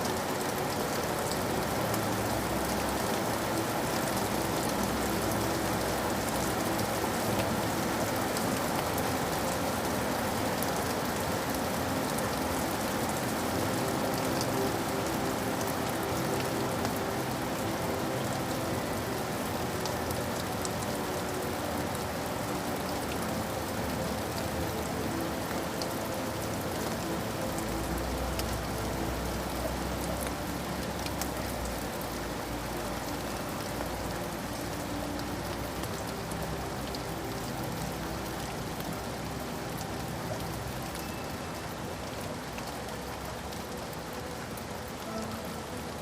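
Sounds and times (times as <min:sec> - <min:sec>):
rain pattering: 0:00.0 - 0:46.0.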